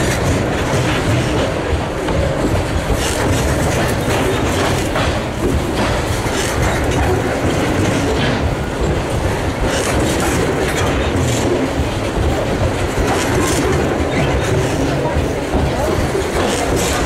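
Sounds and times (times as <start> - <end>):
steel wheels rumbling on rail: 0.0 - 17.0
wheels clacking over rail joints: 0.0 - 17.0.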